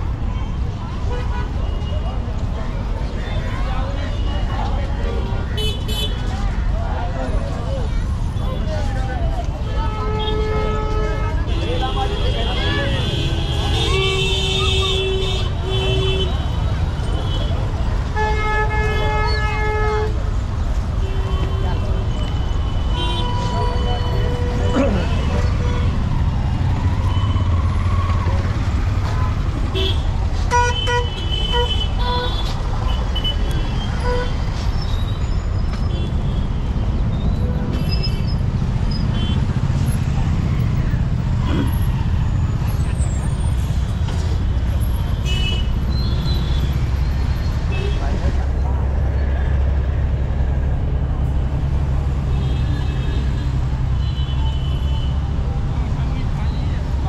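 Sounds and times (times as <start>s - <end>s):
street traffic rumbling: 0.0s - 57.0s.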